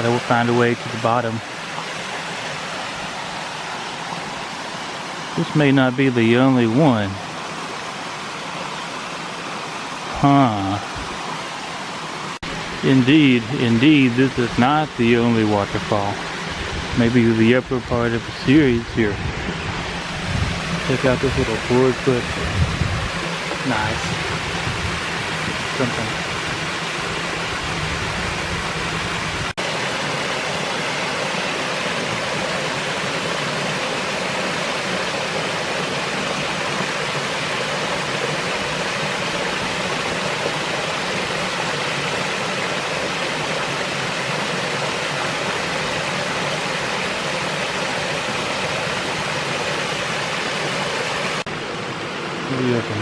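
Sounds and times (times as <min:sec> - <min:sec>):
creek water pouring over waterfall: 0:00.0 - 0:53.0.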